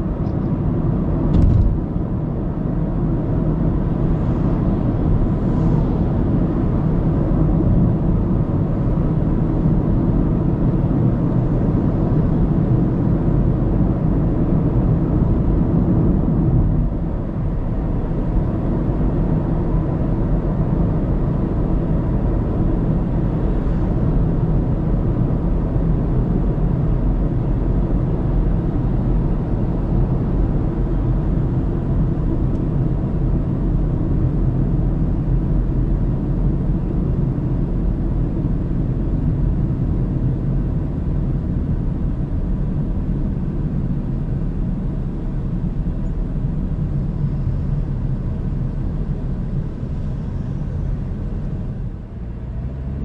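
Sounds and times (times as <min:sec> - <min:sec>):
car road noise on highway: 0:00.0 - 0:53.0.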